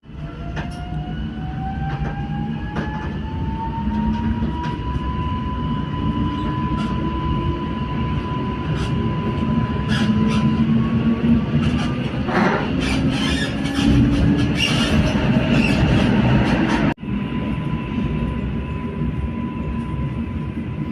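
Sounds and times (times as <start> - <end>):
electric train rumbling on rails: 0.0 - 20.9.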